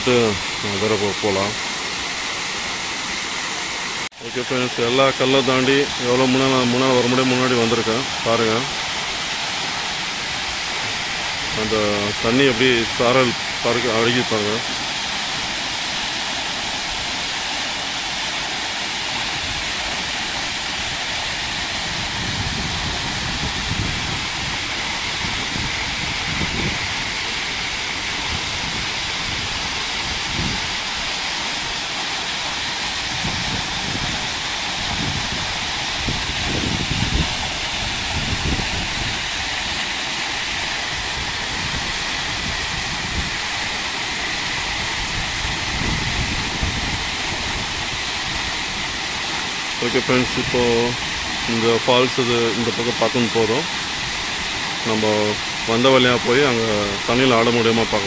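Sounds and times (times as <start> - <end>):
waterfall splashing onto rocks: 0.0 - 58.0.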